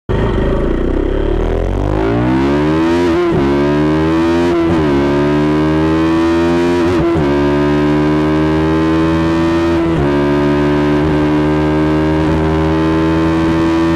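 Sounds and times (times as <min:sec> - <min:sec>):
motorcycle engine accelerating: 0:00.1 - 0:13.9.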